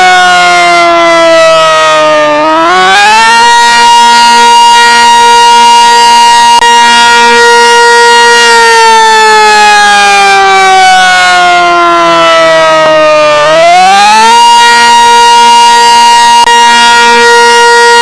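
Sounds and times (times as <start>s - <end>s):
siren winding down: 0.0s - 18.0s.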